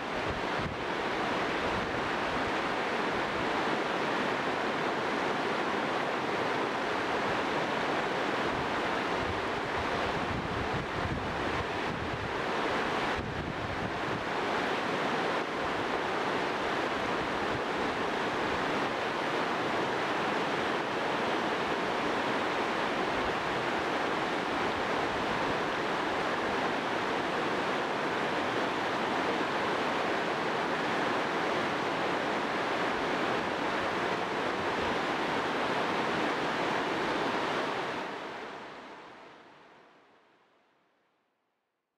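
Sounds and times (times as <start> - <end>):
mountain river rushing over stones: 0.0 - 39.2.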